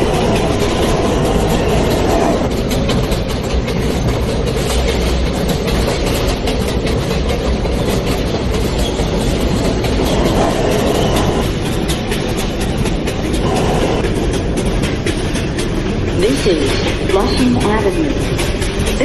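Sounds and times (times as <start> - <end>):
fast clicking from track: 0.0 - 19.0
rumble of train wheels on rail: 0.0 - 19.0.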